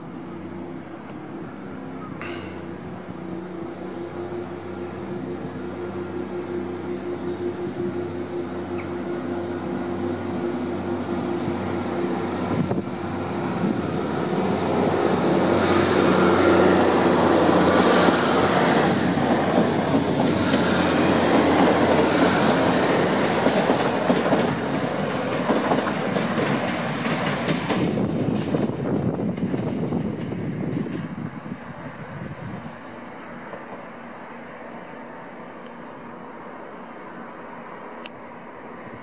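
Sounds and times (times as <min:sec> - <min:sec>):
diesel locomotive engine running: 0:00.0 - 0:39.0
train wheels on track: 0:00.0 - 0:39.0.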